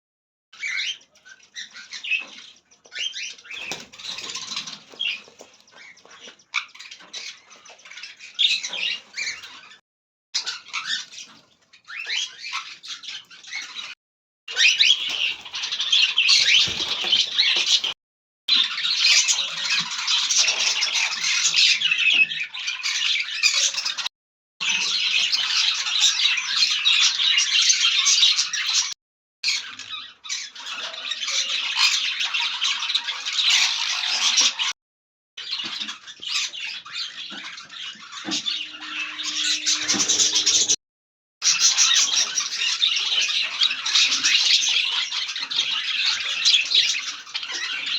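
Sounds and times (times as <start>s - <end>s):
flock of parrots squawking: 0.6s - 9.8s, 10.4s - 24.1s, 24.7s - 34.7s, 35.4s - 40.8s, 41.4s - 47.9s.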